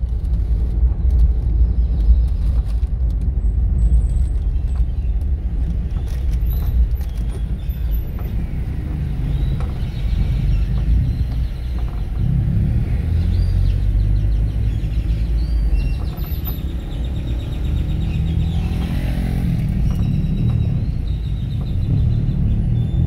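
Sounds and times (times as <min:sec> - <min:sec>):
car driving on a road: 0:00.0 - 0:23.0.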